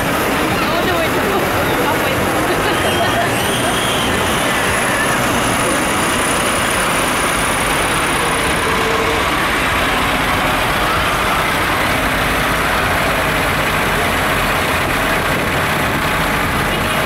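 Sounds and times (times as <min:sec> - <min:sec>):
tractor diesel engines rumbling: 0:00.0 - 0:17.0.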